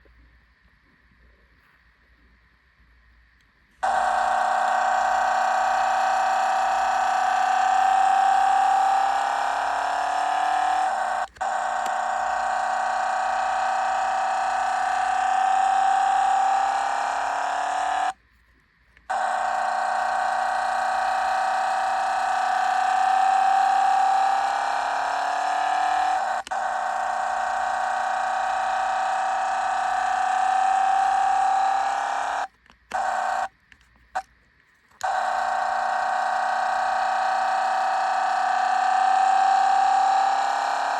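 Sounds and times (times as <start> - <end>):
toy engine sound effect revving: 3.8 - 18.2, 19.1 - 33.5, 35.0 - 40.9.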